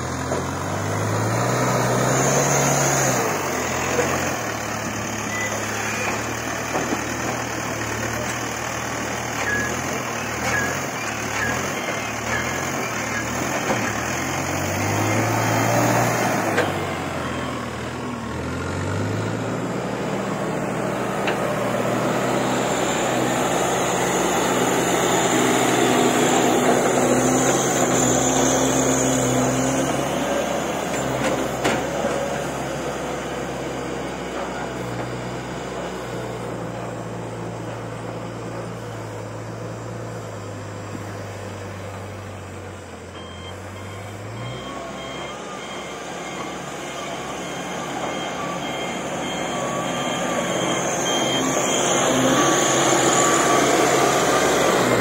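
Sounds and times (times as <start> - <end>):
backhoe diesel engine working: 0.0 - 55.0.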